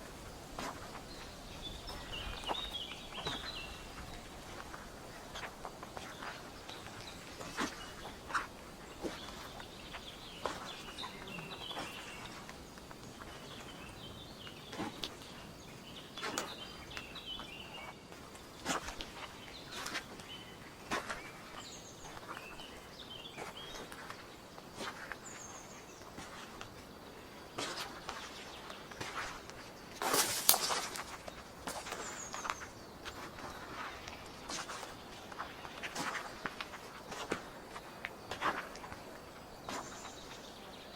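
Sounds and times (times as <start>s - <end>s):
small birds chirping: 0.0s - 40.9s
footsteps on forest floor: 0.2s - 40.9s.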